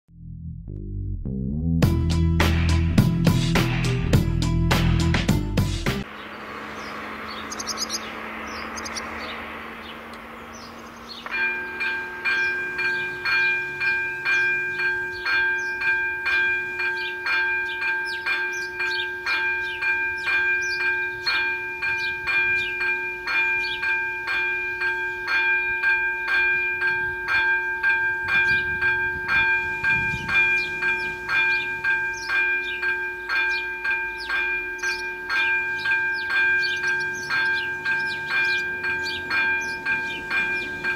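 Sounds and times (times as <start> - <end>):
level crossing warning bell: 6.3 - 9.2, 9.8 - 40.9.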